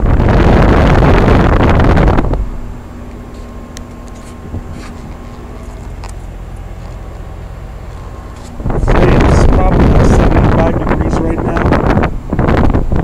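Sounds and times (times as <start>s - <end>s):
air rushing on microphone: 0.0s - 5.6s, 7.8s - 13.0s
heat pump humming: 0.0s - 13.0s.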